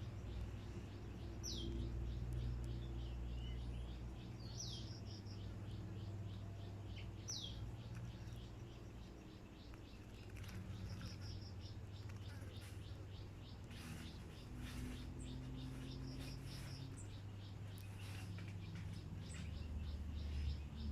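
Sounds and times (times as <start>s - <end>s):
fast bird chirping: 0.0s - 20.9s.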